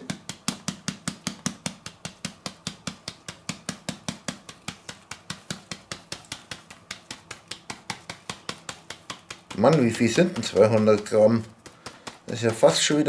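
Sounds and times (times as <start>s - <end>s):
tapping paper flour bag: 0.0s - 13.0s.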